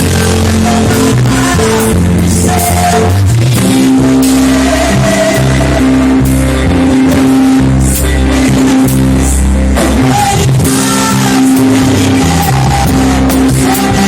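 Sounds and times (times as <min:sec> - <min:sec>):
gospel band playing: 0:00.0 - 0:14.0
people singing: 0:00.0 - 0:14.0.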